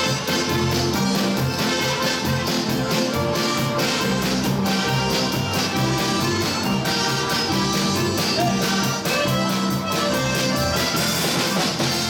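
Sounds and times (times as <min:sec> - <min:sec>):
accordions: 0:00.0 - 0:12.0
polka band playing: 0:00.0 - 0:12.0.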